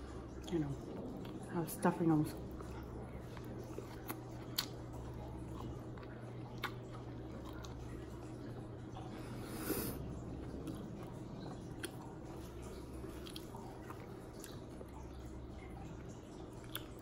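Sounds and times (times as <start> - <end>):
steady low hum: 0.0 - 17.0
woman chewing food: 0.0 - 17.0.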